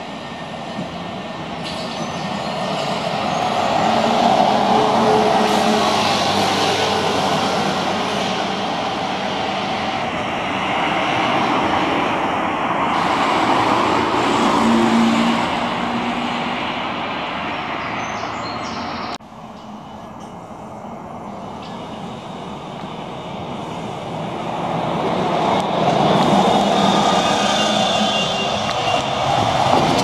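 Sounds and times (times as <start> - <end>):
street traffic rushing: 0.0 - 30.0.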